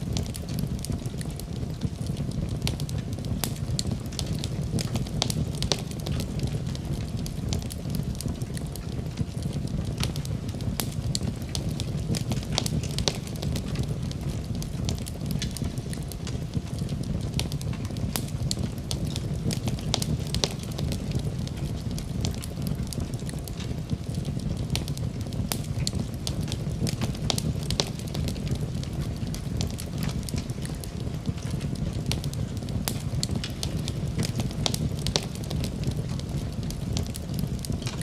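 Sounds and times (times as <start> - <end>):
low rumble of flames: 0.0 - 38.0
wood fire crackling and popping: 0.0 - 38.0.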